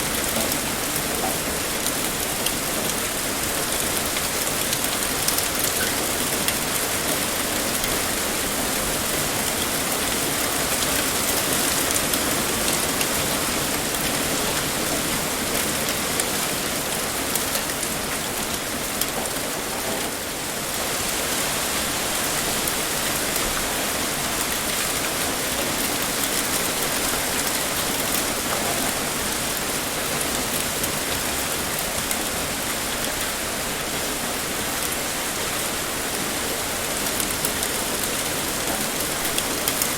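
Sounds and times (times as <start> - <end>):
raindrops ticking on a surface: 0.0 - 21.4, 22.0 - 39.9
heavy rain pouring: 0.0 - 39.9.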